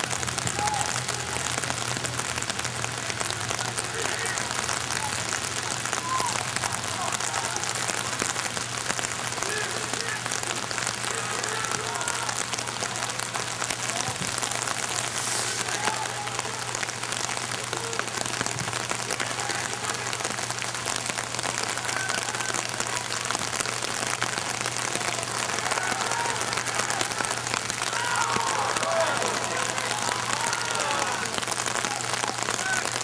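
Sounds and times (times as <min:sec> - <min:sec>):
rain hissing: 0:00.0 - 0:33.0.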